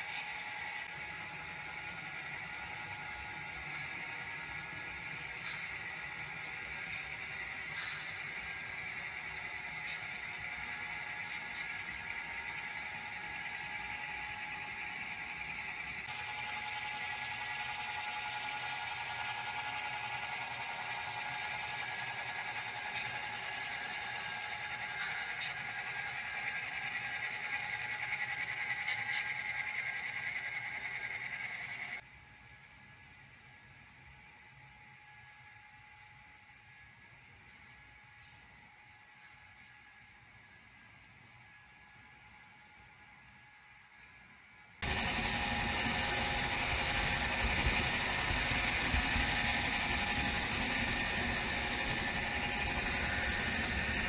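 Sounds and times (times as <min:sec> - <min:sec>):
model train motors whirring: 0:00.0 - 0:54.0.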